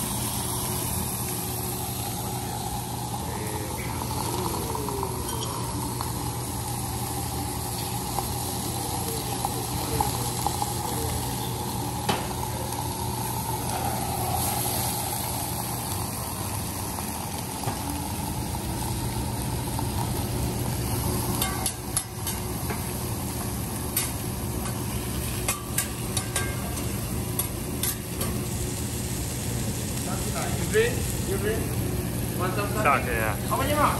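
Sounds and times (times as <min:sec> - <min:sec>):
food sizzling on a griddle: 0:00.0 - 0:33.9
steady low hum: 0:00.0 - 0:33.9.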